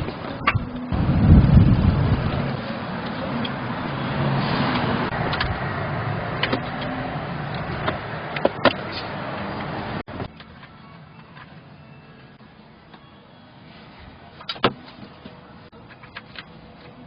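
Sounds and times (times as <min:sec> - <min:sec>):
utility vehicle engine hum: 0:00.0 - 0:17.0.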